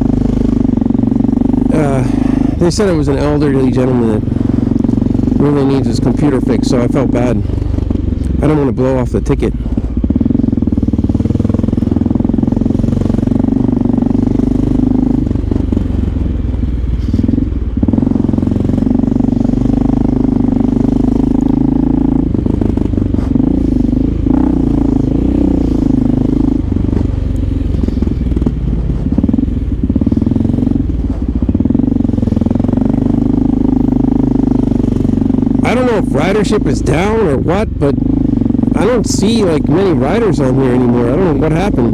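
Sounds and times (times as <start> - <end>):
motorcycle engine droning: 0.0 - 41.9.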